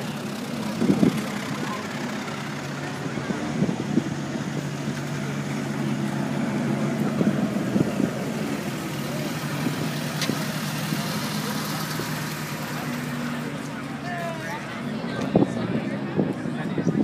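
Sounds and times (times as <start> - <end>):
people talking: 0.0 - 5.4, 6.0 - 17.0
car engines idling: 0.0 - 17.0.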